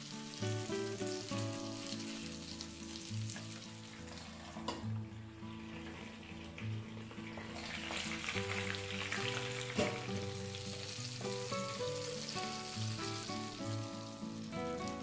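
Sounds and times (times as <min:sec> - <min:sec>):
chicken sizzling in oil: 0:00.0 - 0:15.0
soft instrumental music: 0:00.0 - 0:15.0.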